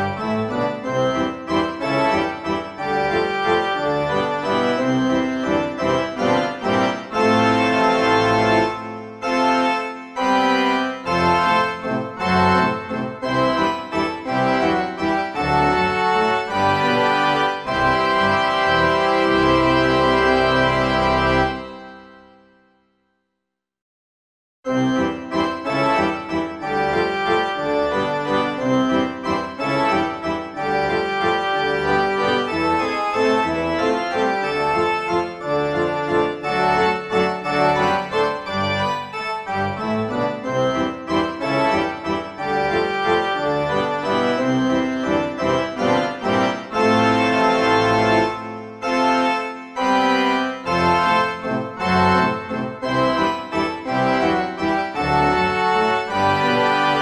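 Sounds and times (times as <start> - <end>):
organ-like keyboard music: 0.0 - 22.7, 24.7 - 57.0.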